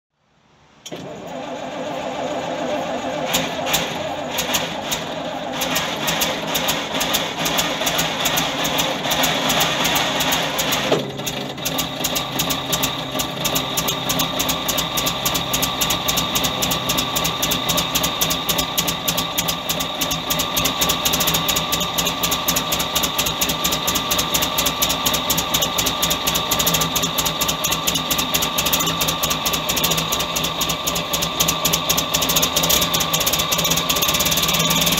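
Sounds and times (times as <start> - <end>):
engine running: 0.8 - 34.9
engine idling with even pulse: 1.3 - 34.9.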